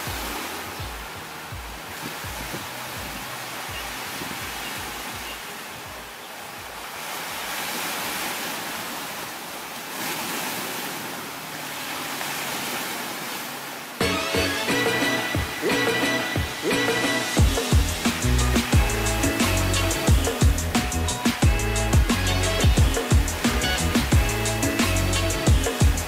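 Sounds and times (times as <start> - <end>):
ocean surf washing onto beach: 0.0 - 26.0.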